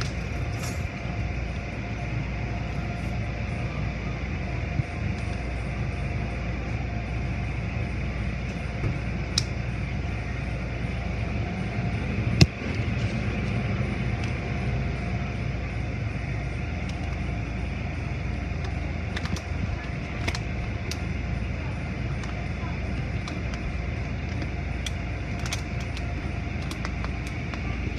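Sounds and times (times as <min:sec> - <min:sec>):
car wash machinery humming: 0:00.0 - 0:27.9.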